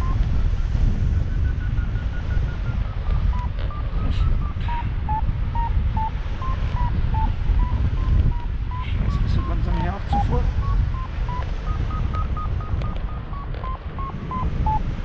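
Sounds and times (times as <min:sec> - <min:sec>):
variometer short beeps: 0:00.0 - 0:15.0
wind noise on microphone: 0:00.0 - 0:15.0.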